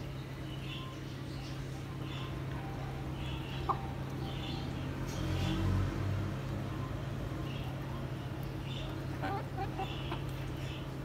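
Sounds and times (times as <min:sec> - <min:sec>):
low engine hum: 0:01.4 - 0:11.0.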